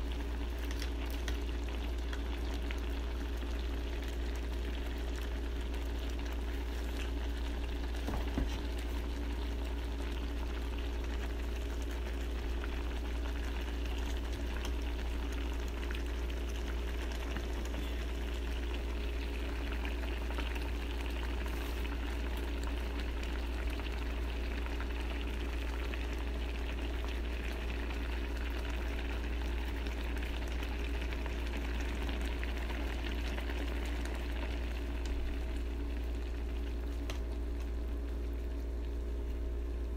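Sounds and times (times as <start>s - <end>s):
constant low hum: 0.0s - 39.9s
soup bubbling at a simmer: 0.0s - 39.9s.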